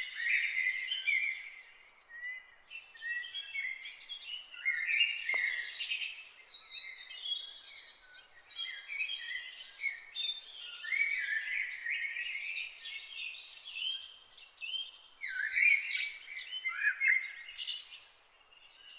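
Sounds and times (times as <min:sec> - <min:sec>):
songbirds singing and calling: 0:00.0 - 0:18.9.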